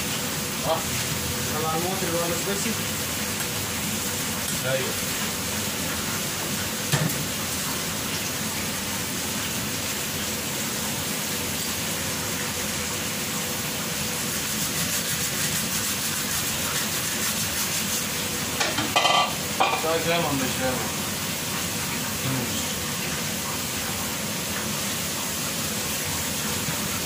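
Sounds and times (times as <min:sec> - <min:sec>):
food sizzling in hot oil: 0:00.0 - 0:27.0.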